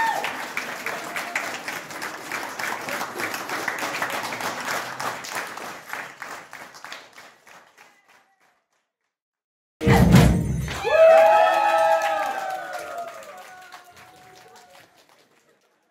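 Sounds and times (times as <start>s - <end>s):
crowd applauding: 0.0s - 8.8s, 10.7s - 15.9s.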